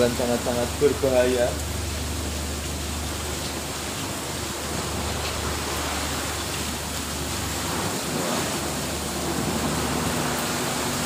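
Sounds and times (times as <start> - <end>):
heavy rain pouring: 0.0 - 11.0
low steady hum: 0.0 - 11.0.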